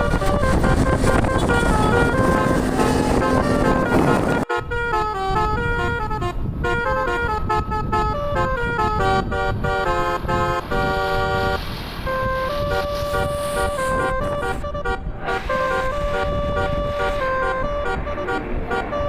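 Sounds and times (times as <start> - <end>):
musical bus air horn: 0.0 - 19.0
road noise: 0.0 - 19.0.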